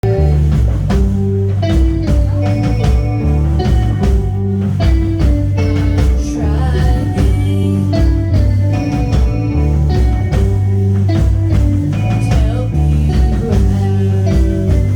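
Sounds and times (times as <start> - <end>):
drums keeping steady beat: 0.0 - 14.9
electric guitar: 0.0 - 14.9
heavy bass line: 0.0 - 14.9
rock band playing live: 0.0 - 14.9.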